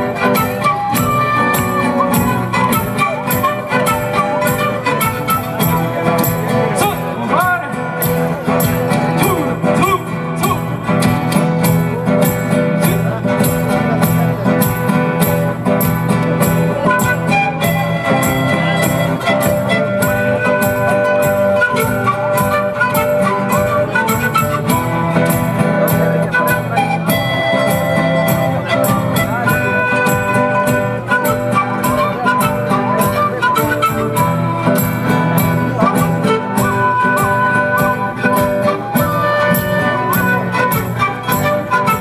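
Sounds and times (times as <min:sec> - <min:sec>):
flute melody: 0:00.0 - 0:42.0
strummed guitars: 0:00.0 - 0:42.0.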